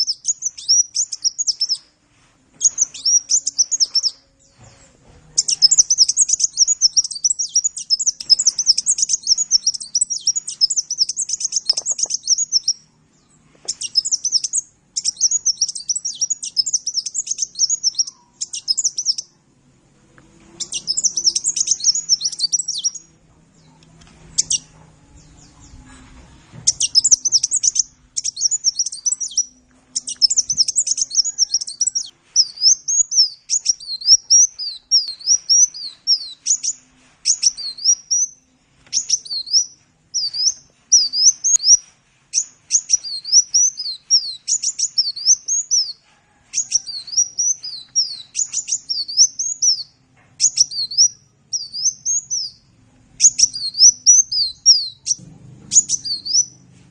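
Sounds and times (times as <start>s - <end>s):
sunbird chirping song: 0.0s - 19.5s, 20.4s - 56.8s.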